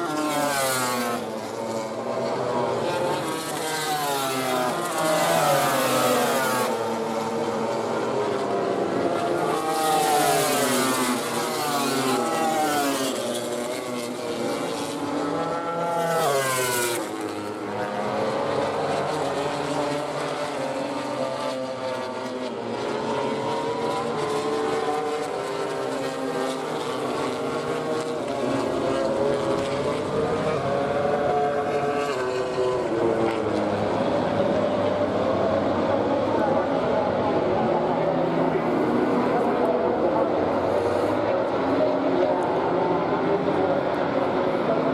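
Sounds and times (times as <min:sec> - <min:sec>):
racing motorcycles at high revs: 0:00.0 - 0:36.9.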